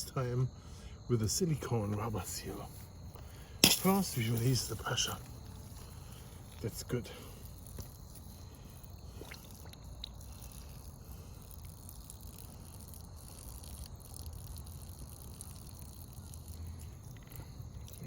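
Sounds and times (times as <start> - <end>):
water dripping from hose: 1.8 - 18.0.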